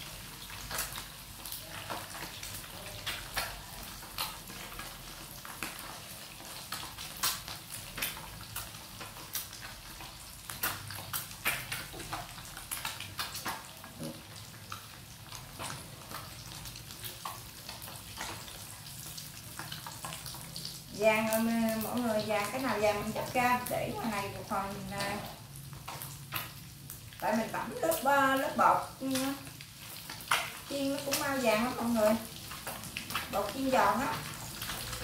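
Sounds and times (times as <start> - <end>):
eggs frying in hot oil: 0.0 - 35.0.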